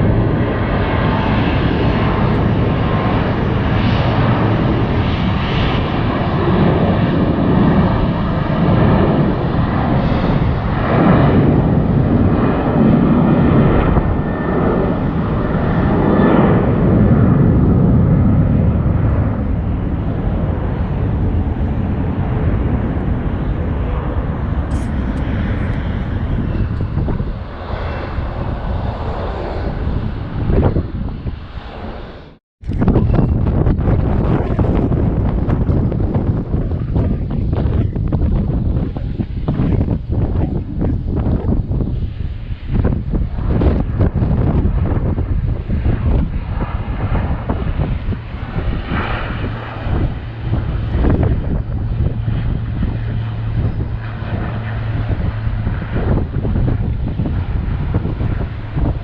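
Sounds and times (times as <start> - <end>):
jet airliner passing: 0.0 - 59.0.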